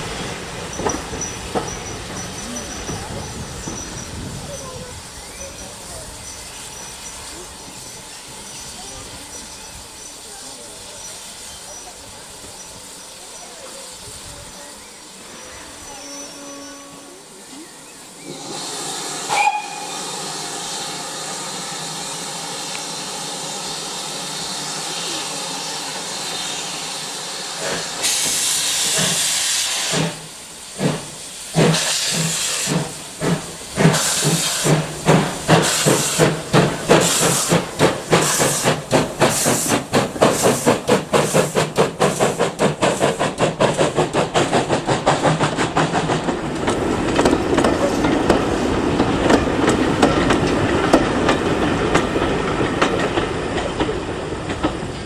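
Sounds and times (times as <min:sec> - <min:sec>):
drain cocks venting steam: 0:00.0 - 0:55.0
steam hissing: 0:00.0 - 0:55.0
steam locomotive exhaust chuffs: 0:00.0 - 0:55.0.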